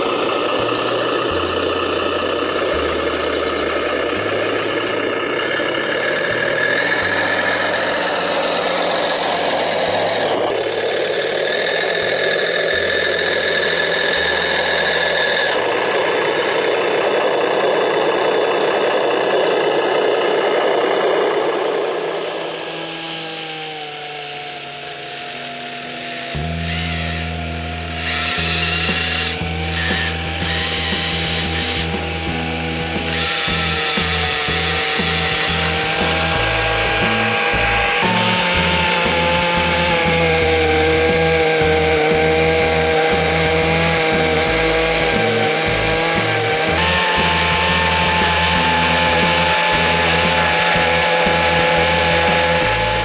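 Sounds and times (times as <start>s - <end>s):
background music with bass: 0.0s - 19.6s, 26.1s - 53.0s
electric motor whining: 0.0s - 53.0s.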